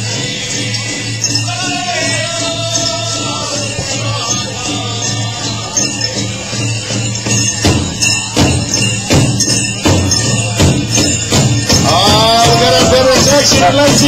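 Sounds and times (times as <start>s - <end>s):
metal jingles and bells shaking: 0.0s - 14.0s
big drum beating: 1.5s - 14.0s.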